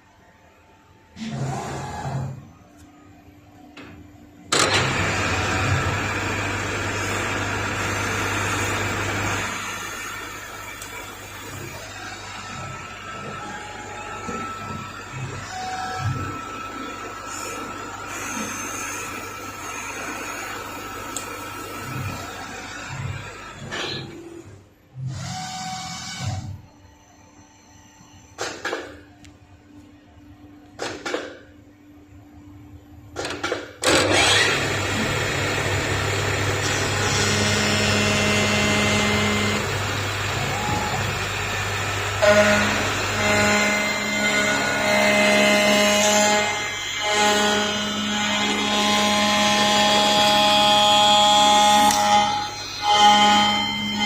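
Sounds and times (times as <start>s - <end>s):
machine tool humming with whine: 4.1s - 28.2s, 33.9s - 54.0s.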